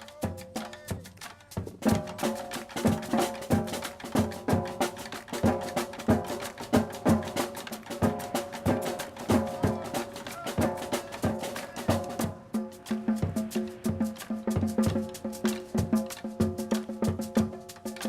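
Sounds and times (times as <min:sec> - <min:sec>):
percussion-led music: 0:00.0 - 0:18.0.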